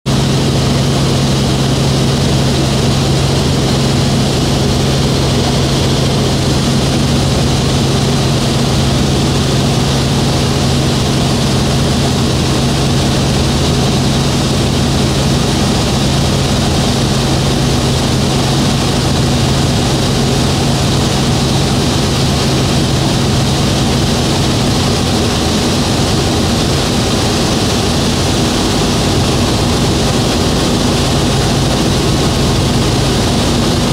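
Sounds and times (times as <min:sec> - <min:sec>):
helicopter engine and rotors drone: 0:00.1 - 0:33.9
low hum: 0:00.1 - 0:33.9.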